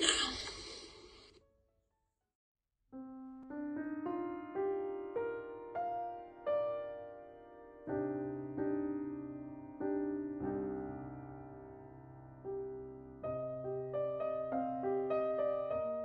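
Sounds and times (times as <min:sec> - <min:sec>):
slow soft piano chords: 0:03.0 - 0:16.0.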